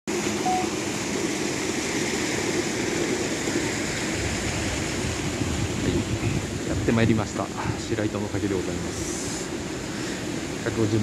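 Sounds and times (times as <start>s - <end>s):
stream water rushing: 0.1s - 11.0s.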